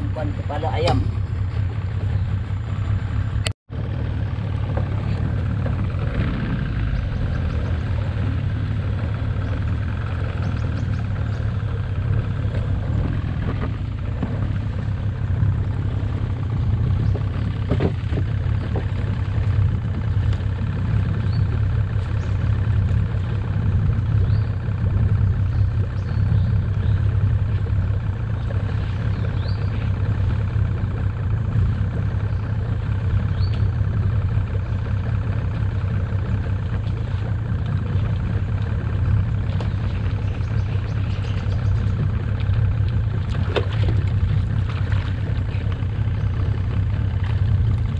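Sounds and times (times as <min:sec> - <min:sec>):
boat engine idling: 0:00.0 - 0:47.9.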